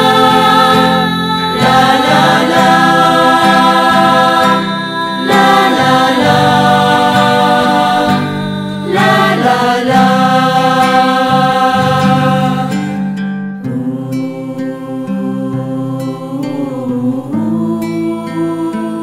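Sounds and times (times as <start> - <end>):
musical accompaniment: 0.0 - 19.0
voices singing religious song: 0.0 - 19.0.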